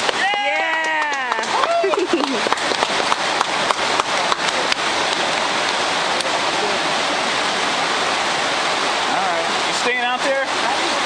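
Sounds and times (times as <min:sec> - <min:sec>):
river rushing over rapids: 0:00.0 - 0:11.0
splashes of people wading: 0:00.0 - 0:11.0.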